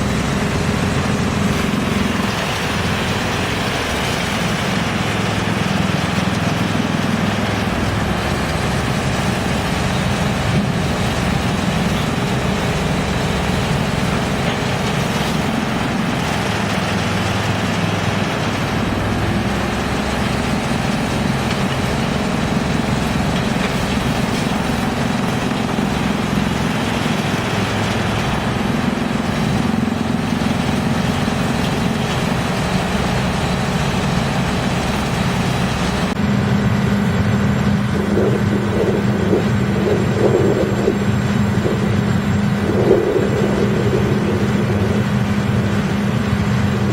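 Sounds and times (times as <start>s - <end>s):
wood chipper running: 0.0s - 46.9s.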